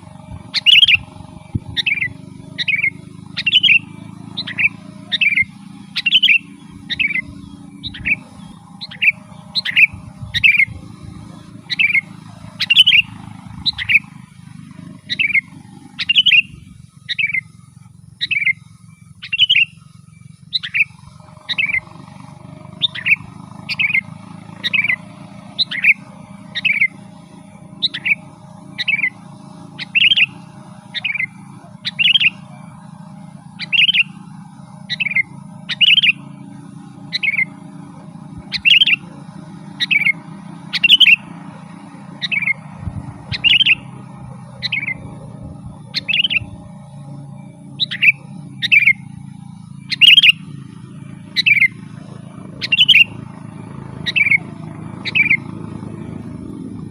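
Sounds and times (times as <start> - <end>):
bulbul calling: 0.0 - 56.9
steady low hum: 0.0 - 56.9.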